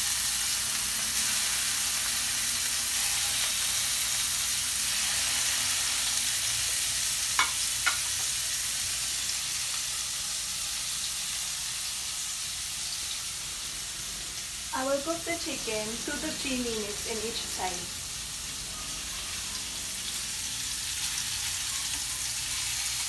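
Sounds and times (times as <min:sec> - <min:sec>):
chicken sizzling in a pan: 0:00.0 - 0:23.0.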